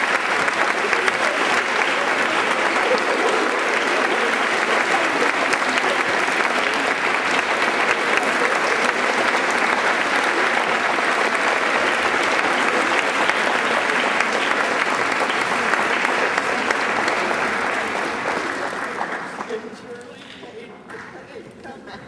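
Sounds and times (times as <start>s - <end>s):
audience applauding: 0.0s - 21.3s.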